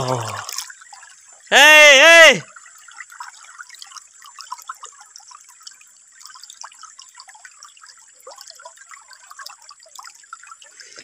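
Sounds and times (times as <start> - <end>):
stream trickling: 0.0 - 11.0.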